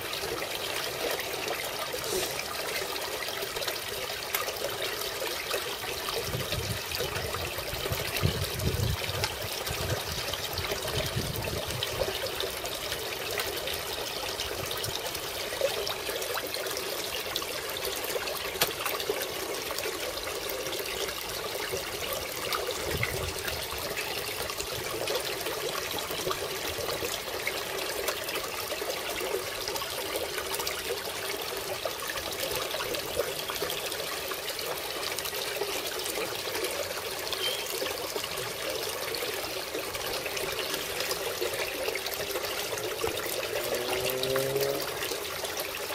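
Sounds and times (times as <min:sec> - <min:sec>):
water splashing and trickling: 0:00.0 - 0:45.9.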